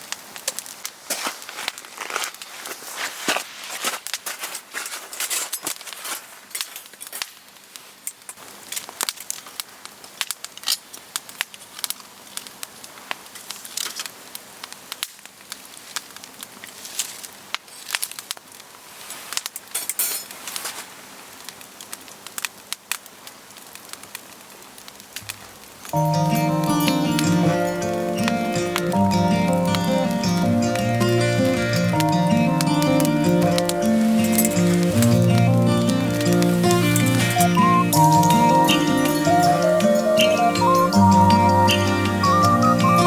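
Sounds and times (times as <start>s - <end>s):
campfire crackling and popping: 0.0s - 43.0s
soft fire hiss: 0.0s - 43.0s.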